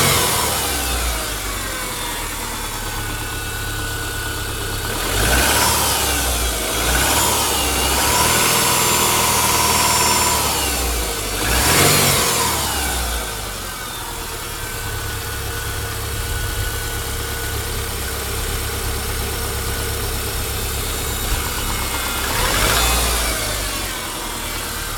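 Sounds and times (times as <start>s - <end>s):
car engine idling: 0.0s - 24.9s
engine throttle blips: 0.0s - 24.9s.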